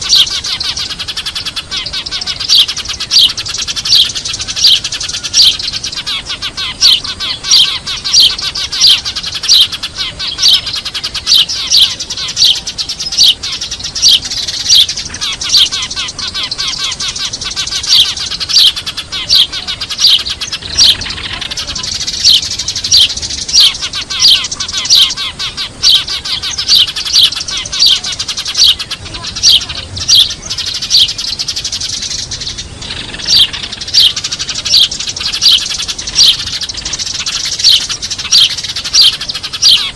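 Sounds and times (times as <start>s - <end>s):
flock of sparrows chattering: 0.0s - 39.9s
loud sparrow chirps: 0.0s - 39.9s.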